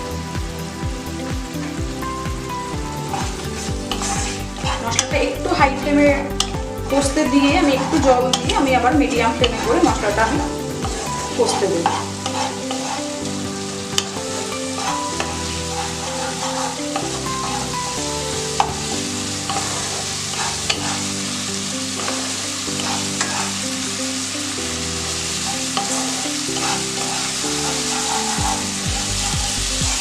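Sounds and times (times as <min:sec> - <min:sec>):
paste sizzling in oil: 0:00.0 - 0:30.0
soft background music: 0:00.0 - 0:30.0.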